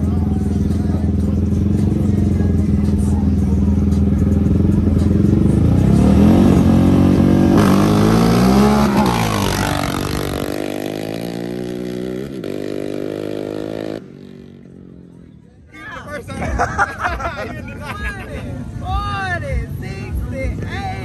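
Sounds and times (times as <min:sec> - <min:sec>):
atv engines revving: 0:00.0 - 0:21.0.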